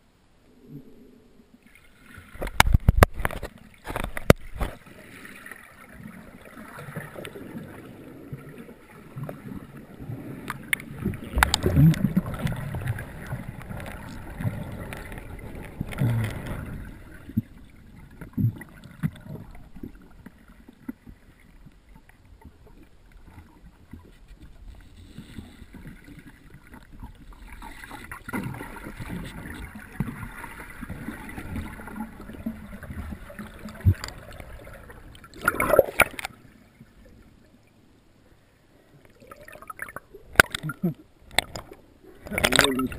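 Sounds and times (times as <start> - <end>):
muffled underwater rushing: 0.0 - 37.4.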